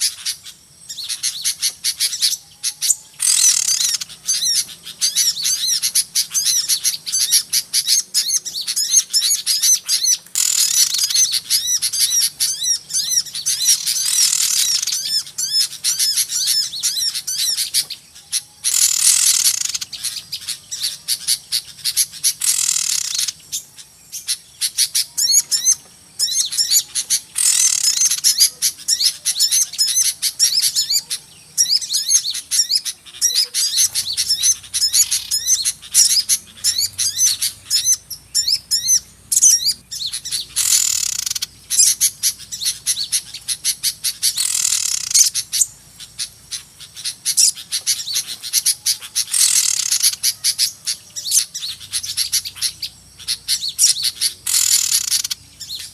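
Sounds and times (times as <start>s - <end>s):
harsh loud bird calling: 0.0s - 55.9s
small birds chirping rapidly: 0.0s - 55.9s.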